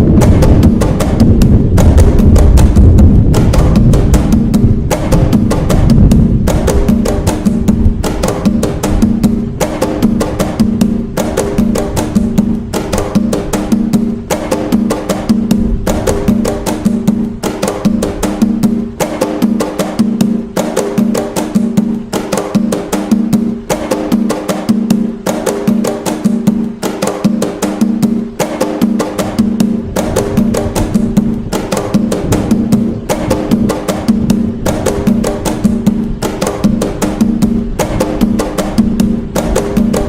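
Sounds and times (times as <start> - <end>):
hand drums playing: 0.0 - 40.0.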